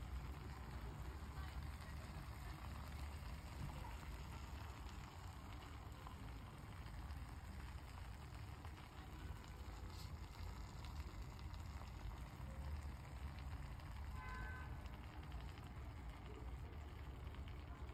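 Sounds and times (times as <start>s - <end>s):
food simmering in a frying pan: 0.0s - 17.9s.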